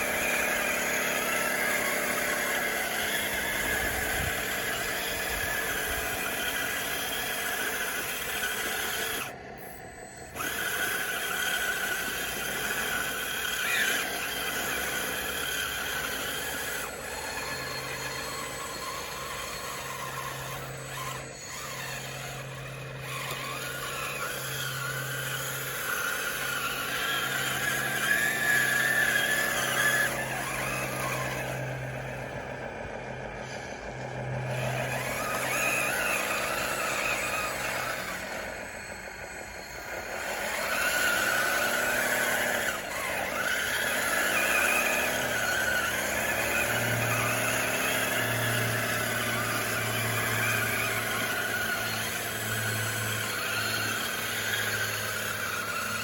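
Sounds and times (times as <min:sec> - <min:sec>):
toy bulldozer motors whining: 0:00.0 - 0:56.0.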